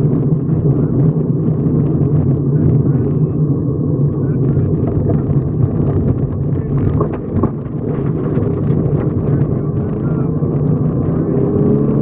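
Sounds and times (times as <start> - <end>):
gravel rattling against underbody: 0.0 - 12.0
rally car engine running: 0.0 - 12.0.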